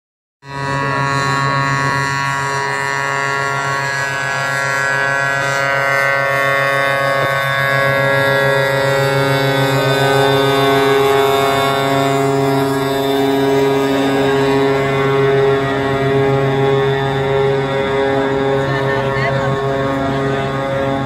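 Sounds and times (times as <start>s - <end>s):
low pulsing note: 0.4s - 21.0s
truck air horns chord: 0.4s - 21.0s
rising tone: 0.5s - 21.0s.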